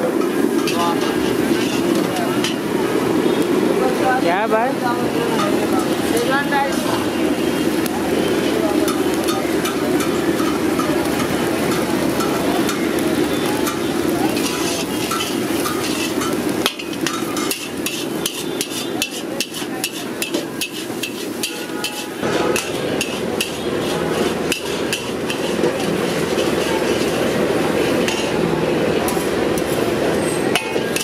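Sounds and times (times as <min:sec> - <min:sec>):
spatula clanking against wok: 0:00.1 - 0:02.8, 0:08.8 - 0:31.0.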